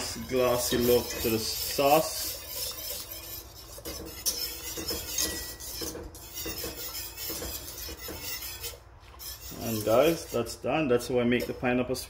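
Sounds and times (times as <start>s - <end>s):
whisk scraping metal pot: 0.0s - 12.0s.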